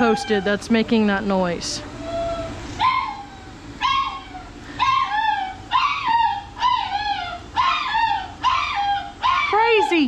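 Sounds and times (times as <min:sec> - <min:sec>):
dog yelping cries: 0:00.0 - 0:00.7, 0:02.0 - 0:10.0.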